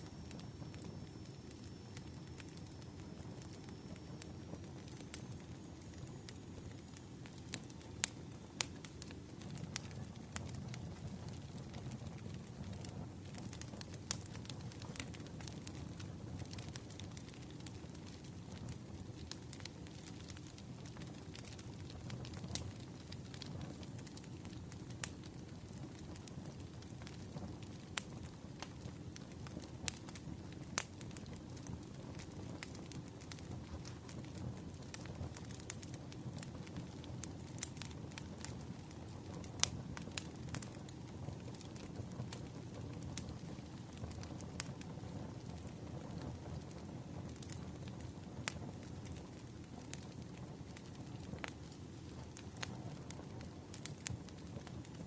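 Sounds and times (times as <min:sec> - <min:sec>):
firewood crackling: 0:00.0 - 0:55.0.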